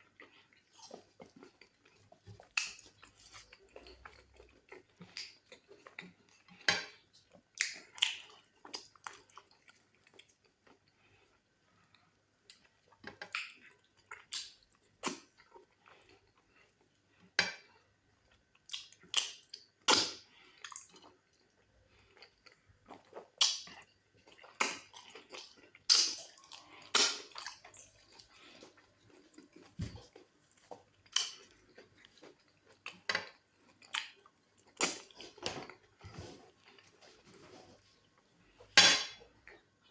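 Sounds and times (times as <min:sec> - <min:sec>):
wet chewing and lip-smacking: 0:00.0 - 0:11.0, 0:11.8 - 0:16.9, 0:18.5 - 0:35.8.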